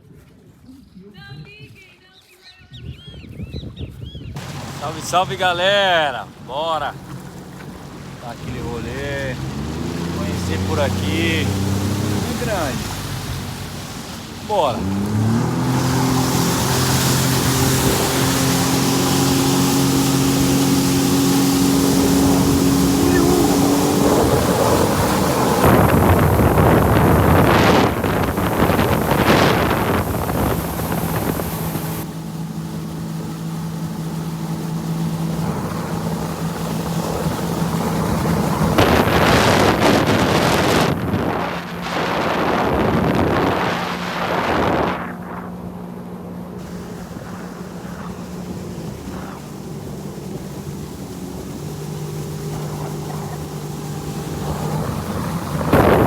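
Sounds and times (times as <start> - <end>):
wind and water rushing: 3.2 - 56.0
jet ski engine drone: 4.4 - 56.0.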